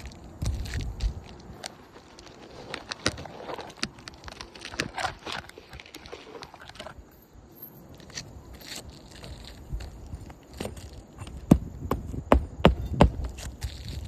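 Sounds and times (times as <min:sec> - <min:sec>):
shingles scuffing and crackling: 0:00.0 - 0:14.0.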